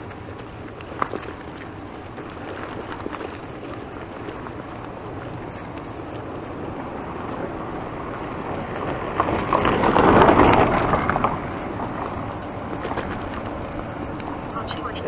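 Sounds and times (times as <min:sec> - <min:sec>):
bicycle tyres on rough road: 0:00.0 - 0:15.0
car passing by: 0:00.0 - 0:15.0.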